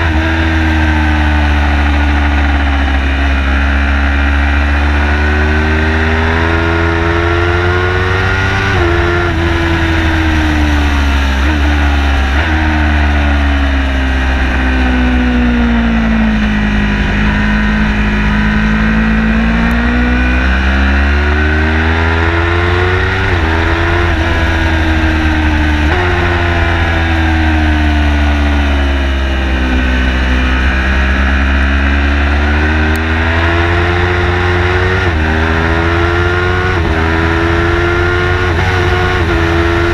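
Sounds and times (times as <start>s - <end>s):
car engine revving: 0.0s - 39.9s
heavy low rumble: 6.2s - 39.9s.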